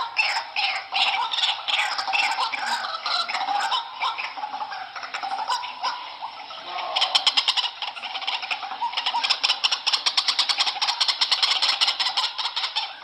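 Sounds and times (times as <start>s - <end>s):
bird harsh pulsing chatter: 0.0s - 13.0s.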